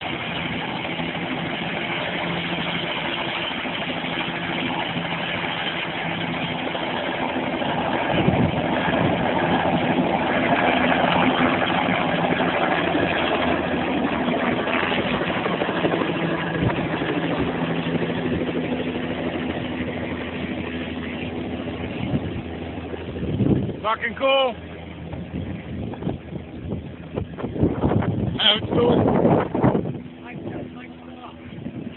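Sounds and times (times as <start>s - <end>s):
helicopter turbine whine and rotor: 0.0s - 31.9s.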